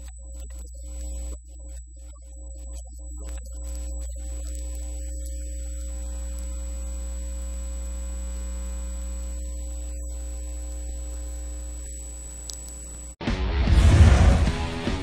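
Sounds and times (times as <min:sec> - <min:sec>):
electrical mains hum: 0:00.0 - 0:13.2
high whine: 0:00.0 - 0:15.0.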